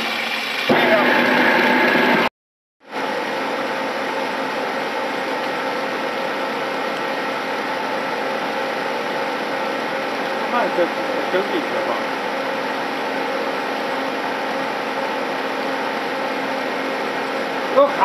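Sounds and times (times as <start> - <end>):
spraying machine humming: 3.0 - 18.0.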